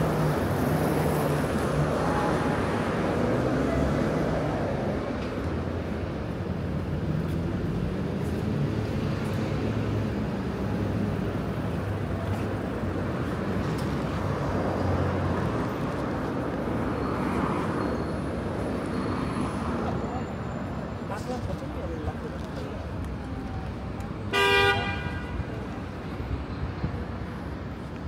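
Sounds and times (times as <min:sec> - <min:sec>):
city noise: 0:00.0 - 0:28.0
vehicle engines passing: 0:00.0 - 0:28.0.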